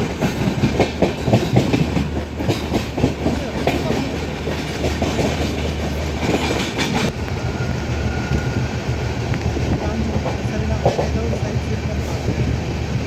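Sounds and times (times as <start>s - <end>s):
train rattling: 0.0s - 13.0s
train wheels clacking on rails: 0.0s - 13.0s.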